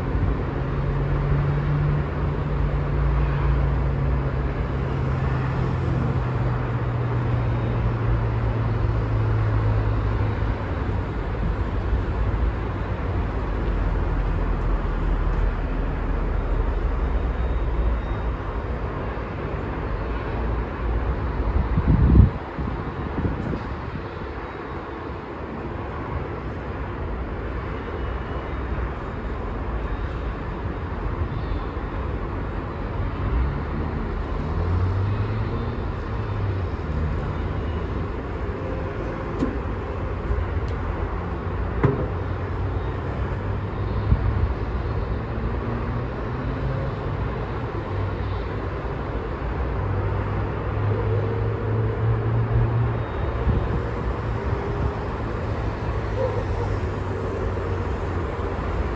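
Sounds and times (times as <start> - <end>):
road traffic: 0.0 - 58.9.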